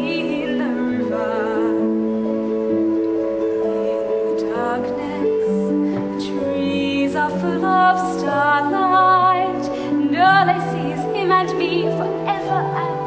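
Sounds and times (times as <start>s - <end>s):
woman singing a ballad: 0.0s - 2.5s, 3.4s - 13.0s
instrumental accompaniment: 0.0s - 13.0s.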